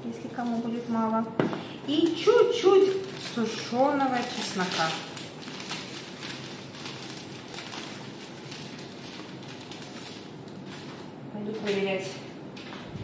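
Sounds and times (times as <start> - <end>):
foil sachet rustling: 0.0 - 1.3, 1.9 - 12.9.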